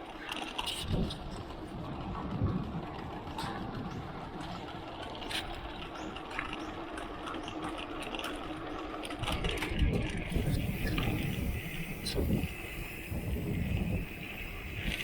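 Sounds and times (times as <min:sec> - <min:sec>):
tyres rumbling on a trail: 0:00.0 - 0:15.0.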